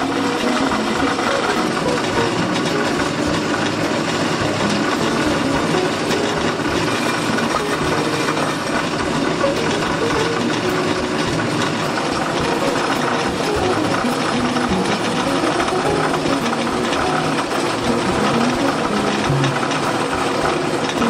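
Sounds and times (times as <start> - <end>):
band saw cutting metal: 0.0 - 21.0.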